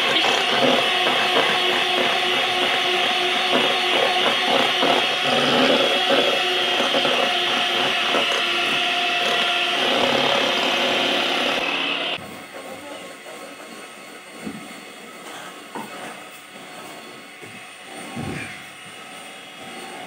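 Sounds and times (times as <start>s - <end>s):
electric hand mixer whipping cream: 0.0s - 20.0s.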